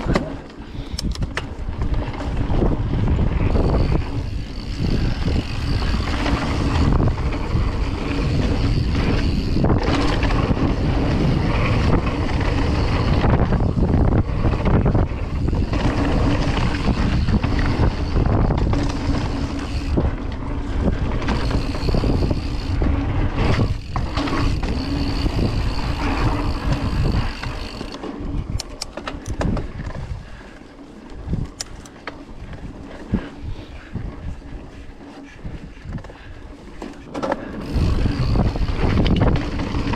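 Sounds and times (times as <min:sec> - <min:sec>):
sharp clicks and rattles: 0:00.0 - 0:33.3, 0:36.8 - 0:39.9
bike tyres rumbling and rattling: 0:00.0 - 0:39.9
wind on microphone: 0:00.0 - 0:39.9.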